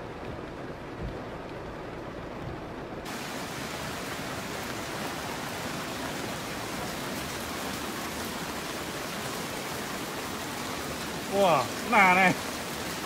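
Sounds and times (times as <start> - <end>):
heavy rain on pavement and cars: 0.0 - 13.0.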